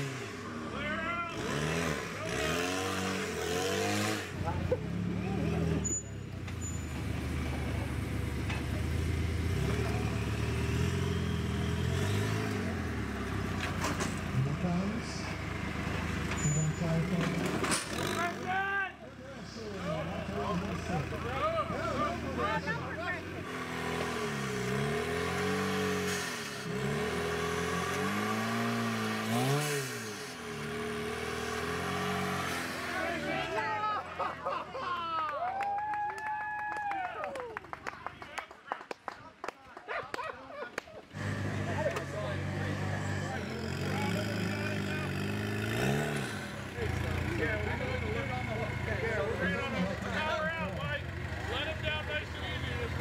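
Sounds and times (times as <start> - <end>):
buggy engine revving: 0.0 - 34.7, 41.0 - 53.0.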